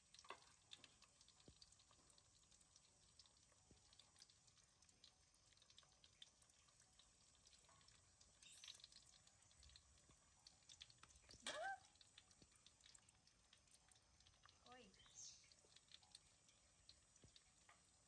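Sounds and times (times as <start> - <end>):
food frying in oil: 0.0 - 18.0.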